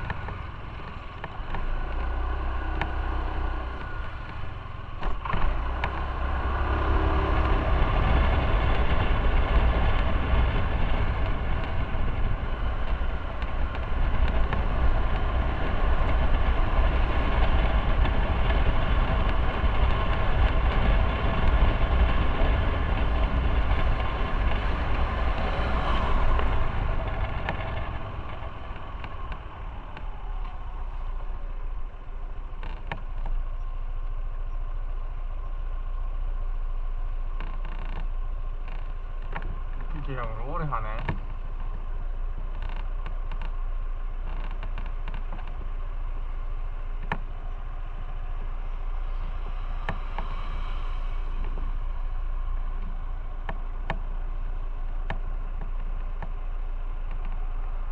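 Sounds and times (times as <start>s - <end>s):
motorcycle engine running: 0.0s - 57.9s
wind rumble: 0.0s - 57.9s.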